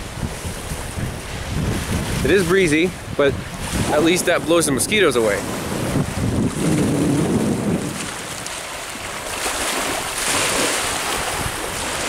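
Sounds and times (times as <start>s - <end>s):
small waves lapping shore: 0.0s - 12.0s
wind buffeting microphone: 0.0s - 12.0s.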